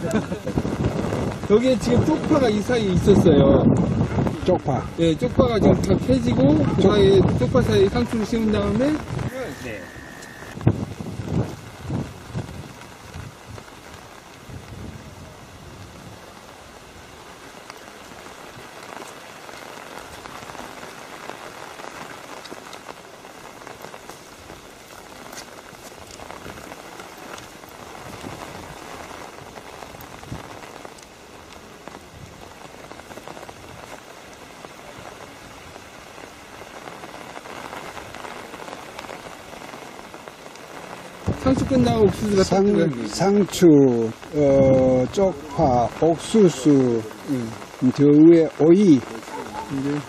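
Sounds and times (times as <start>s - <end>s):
rain drop ticks: 0.0s - 14.9s, 15.8s - 50.0s
steady rain falling: 0.0s - 50.0s.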